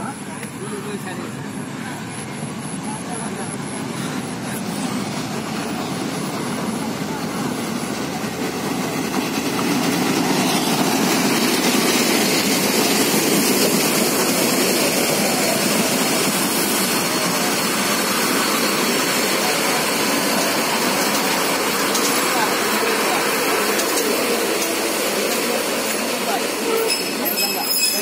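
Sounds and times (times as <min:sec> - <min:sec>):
passenger train rolling along track: 0:00.0 - 0:28.0.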